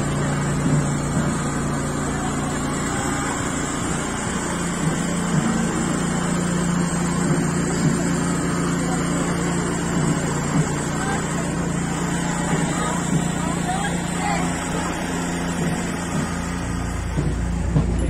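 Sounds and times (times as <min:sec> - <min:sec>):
people talking: 0:00.0 - 0:18.0
steady engine-like hum: 0:00.0 - 0:18.0.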